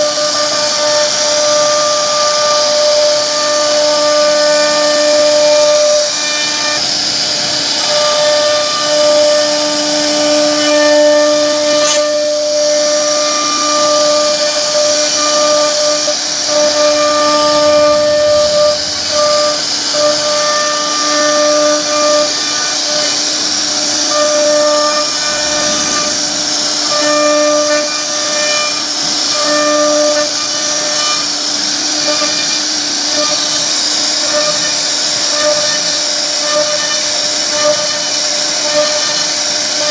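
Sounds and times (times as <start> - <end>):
machine humming tone: 0.0 - 39.9
router spindle whining: 0.0 - 39.9.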